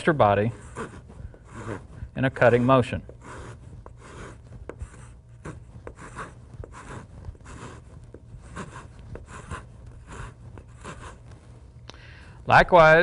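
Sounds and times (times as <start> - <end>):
wood rasp scraping wood: 0.0 - 11.3.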